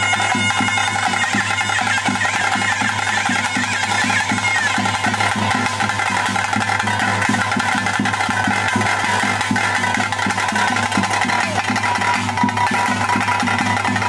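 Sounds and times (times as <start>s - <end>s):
drums beating quickly: 0.0s - 14.0s.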